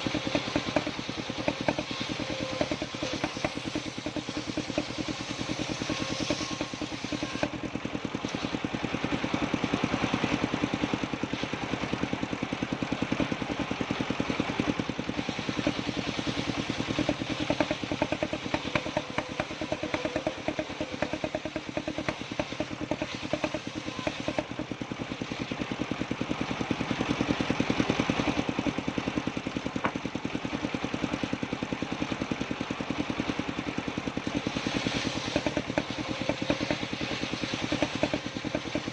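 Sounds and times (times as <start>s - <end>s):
engine puttering: 0.0s - 38.9s.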